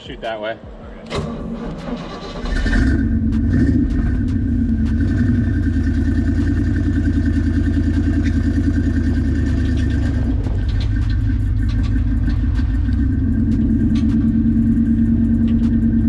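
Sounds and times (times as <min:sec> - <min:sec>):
car engine running: 0:01.1 - 0:16.0.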